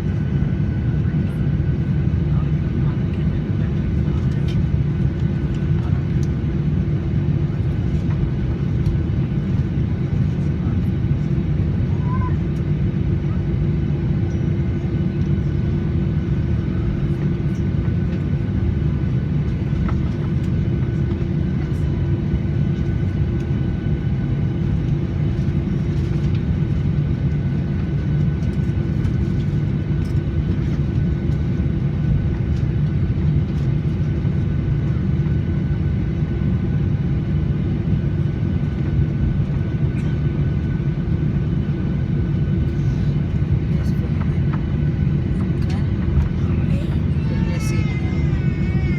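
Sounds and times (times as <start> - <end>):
airliner cabin rumble and hum: 0.0 - 48.9.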